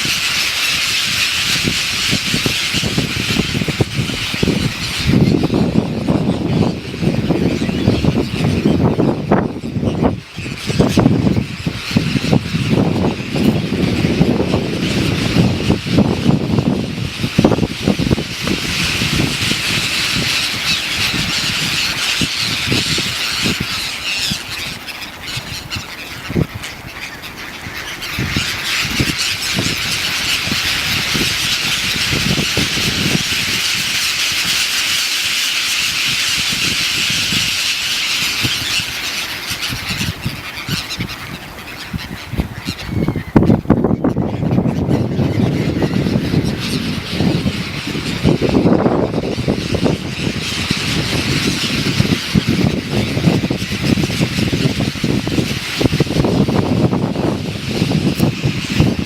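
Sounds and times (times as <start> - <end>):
flock of birds squawking: 0.0 - 59.0.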